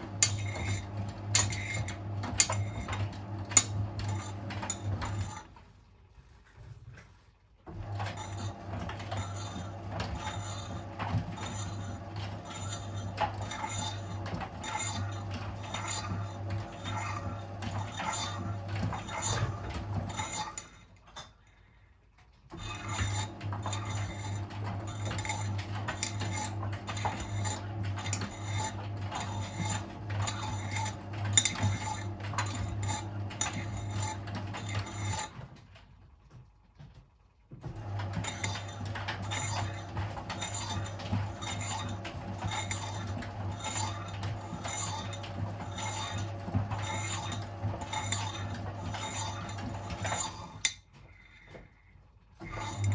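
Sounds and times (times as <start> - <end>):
washing machine motor humming: 0.0 - 6.0, 7.2 - 21.0, 22.5 - 51.2, 52.1 - 52.9.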